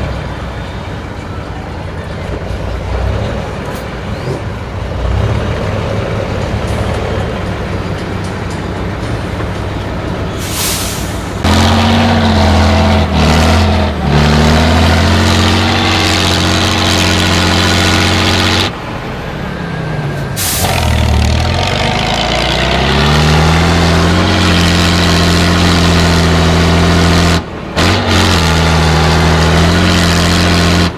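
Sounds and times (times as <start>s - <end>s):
truck engines revving hard: 0.0s - 30.9s.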